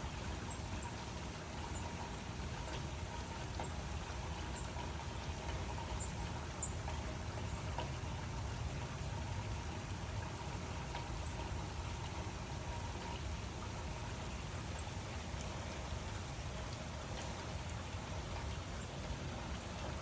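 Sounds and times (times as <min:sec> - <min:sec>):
steady rainfall hiss: 0:00.0 - 0:20.0
faint raindrop ticks: 0:00.5 - 0:20.0.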